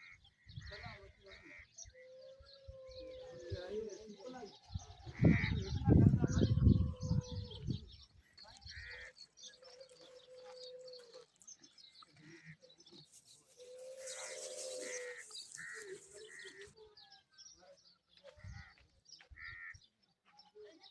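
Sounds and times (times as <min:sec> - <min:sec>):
long low bird calls: 0:00.0 - 0:16.8.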